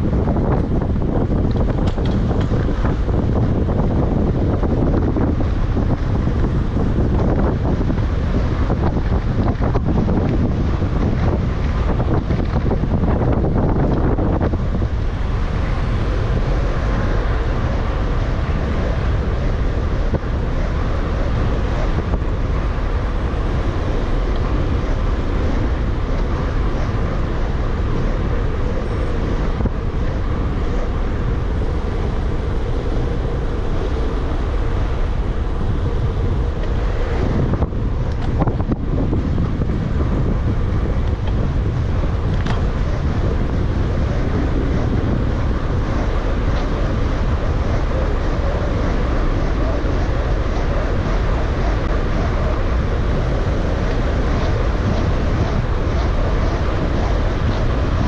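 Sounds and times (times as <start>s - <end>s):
bike tyre and road noise: 0.0s - 58.0s
wind buffeting microphone: 0.0s - 58.0s.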